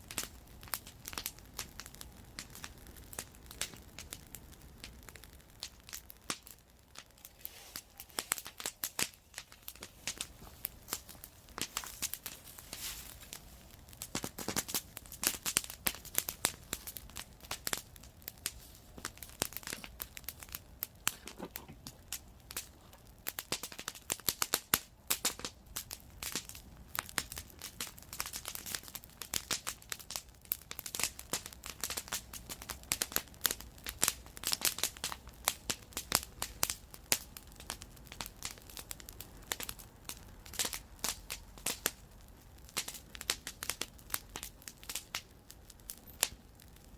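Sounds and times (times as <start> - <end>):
campfire crackling: 0.0 - 46.9.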